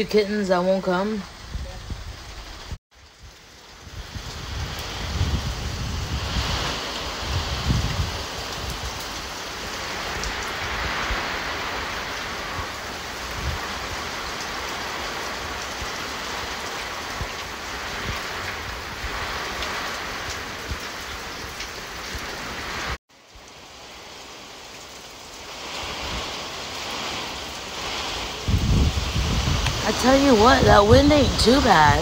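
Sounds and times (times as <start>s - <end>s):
wind gusts on microphone: 0.0s - 23.0s, 25.5s - 32.0s
heavy rain hissing: 0.0s - 32.0s.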